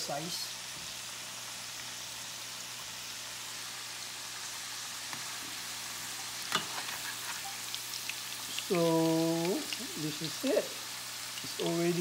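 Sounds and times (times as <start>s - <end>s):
potatoes deep-frying in oil: 0.0s - 12.0s.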